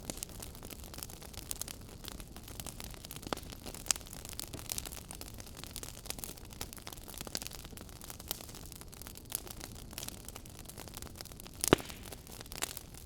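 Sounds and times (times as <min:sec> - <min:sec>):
fire crackling and popping: 0:00.0 - 0:13.0
flames rumbling: 0:00.0 - 0:13.0.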